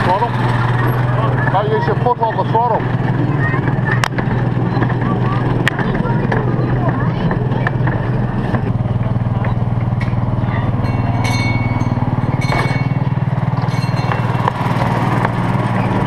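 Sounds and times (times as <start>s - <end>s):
miniature train engine humming: 0.0s - 16.0s
wheels squealing on rails: 0.0s - 16.0s
wheel clicks on rails: 2.8s - 16.0s.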